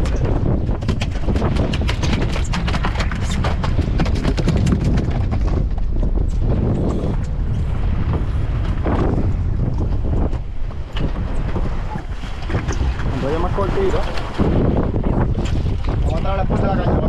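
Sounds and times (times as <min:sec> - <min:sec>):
boat rumble: 0:00.0 - 0:17.0
wind: 0:00.0 - 0:17.0.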